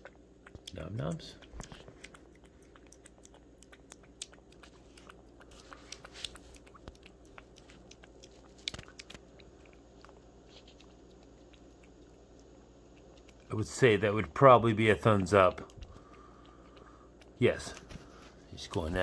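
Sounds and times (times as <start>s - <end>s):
cat lapping and chewing: 0.0s - 19.0s.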